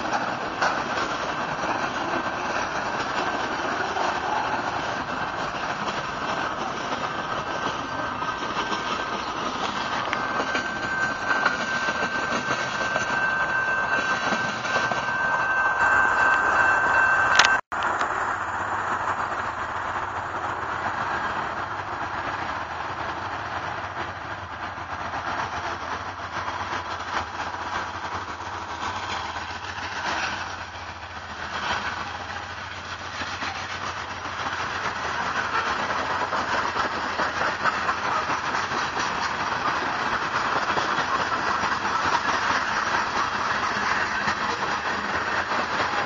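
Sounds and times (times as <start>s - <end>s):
diesel locomotive engines: 0.0s - 46.0s
wheels rumbling on rails: 0.0s - 46.0s.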